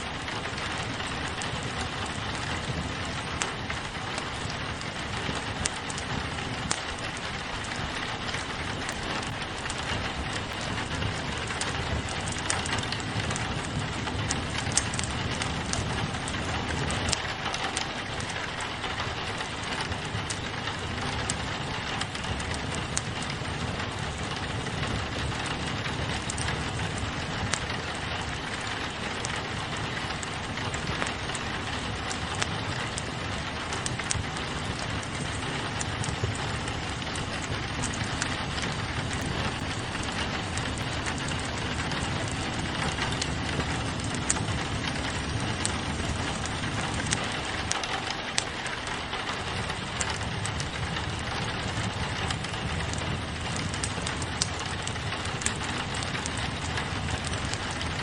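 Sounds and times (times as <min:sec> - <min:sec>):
rain pattering on a window: 0:00.0 - 0:58.0
wood fire crackling: 0:00.0 - 0:58.0.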